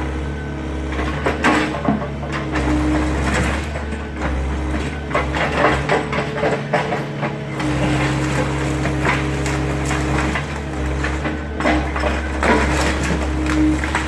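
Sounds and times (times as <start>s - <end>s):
excavator diesel engine running: 0.0s - 14.0s
wood cracking and crunching: 0.9s - 14.0s.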